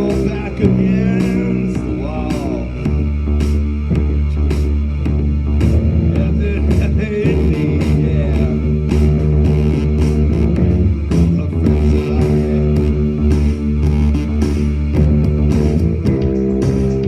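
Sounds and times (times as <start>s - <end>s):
bass guitar: 0.0s - 17.0s
rock band playing: 0.0s - 17.0s.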